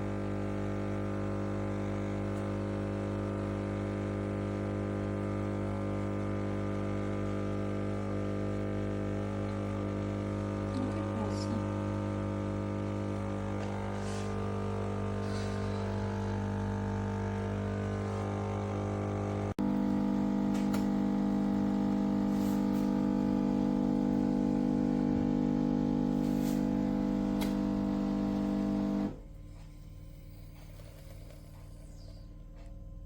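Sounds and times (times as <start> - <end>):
coffee maker electric buzz: 0.0 - 32.7
coffee maker high hum: 0.0 - 33.0.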